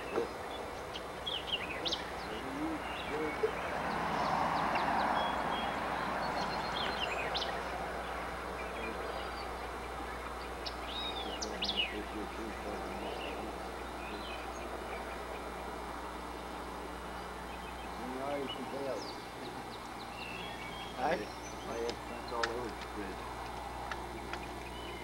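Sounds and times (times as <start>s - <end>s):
small birds chirping: 0.0s - 25.0s
steady outdoor rush: 0.0s - 25.0s.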